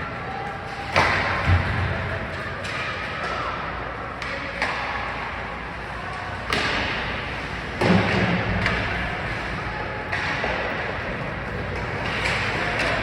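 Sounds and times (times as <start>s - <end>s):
skates scraping ice: 0.1s - 13.0s
sticks clacking on puck: 0.3s - 13.0s.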